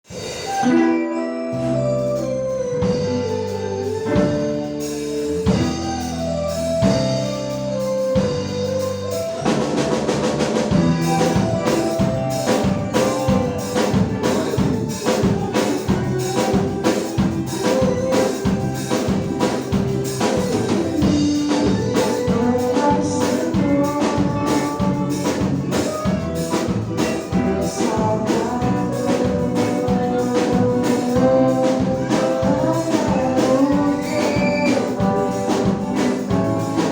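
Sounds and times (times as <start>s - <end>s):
drum kit beat: 0.0s - 0.8s, 1.6s - 36.9s
band playing instrumental music: 0.1s - 36.9s.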